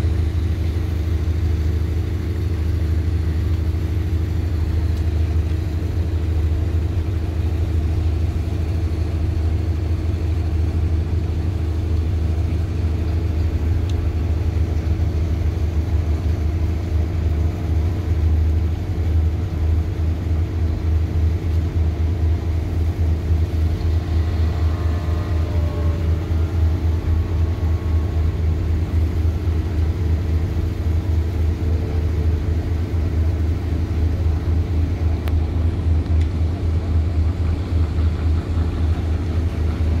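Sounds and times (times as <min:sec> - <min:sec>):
ferry engines rumbling: 0:00.0 - 0:40.0.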